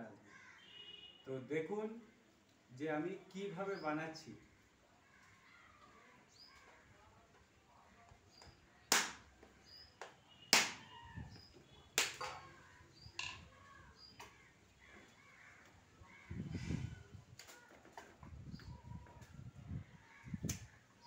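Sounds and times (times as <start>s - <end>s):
small birds chirping: 2.1s - 21.0s.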